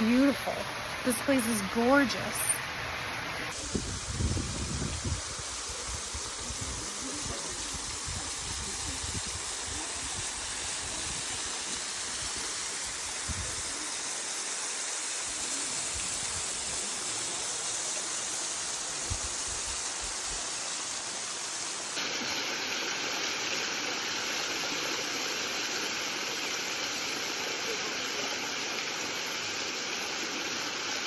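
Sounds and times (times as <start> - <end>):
waterfall splashing into pool: 0.2 - 31.0.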